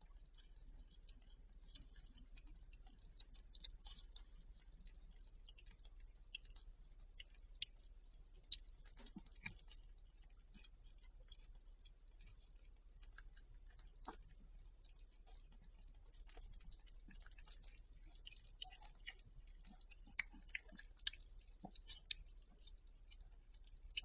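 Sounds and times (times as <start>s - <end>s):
cat chewing wetly: 0.0s - 24.0s
low steady hum: 0.0s - 24.0s.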